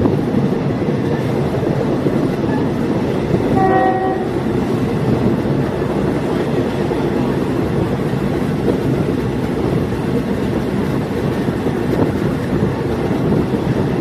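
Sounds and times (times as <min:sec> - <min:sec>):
diesel train running on track: 0:00.0 - 0:14.0.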